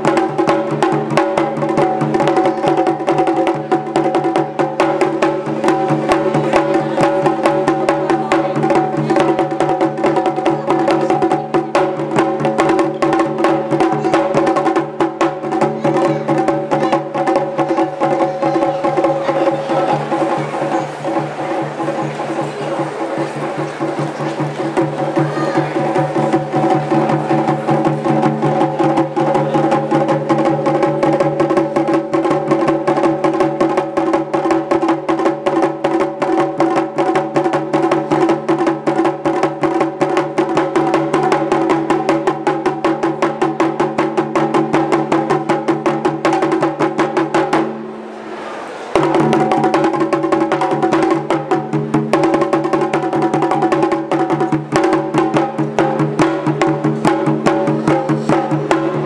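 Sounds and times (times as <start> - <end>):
large drum: 0.0 - 48.3, 48.9 - 59.0.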